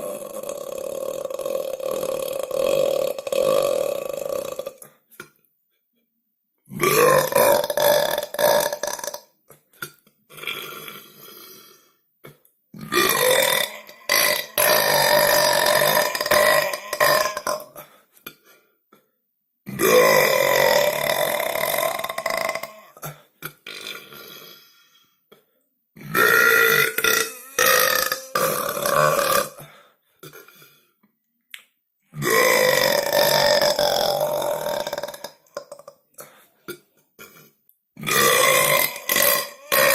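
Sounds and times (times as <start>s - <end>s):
person's long loud burps: 0.0s - 5.4s, 6.7s - 18.4s, 19.0s - 31.0s, 32.1s - 39.9s.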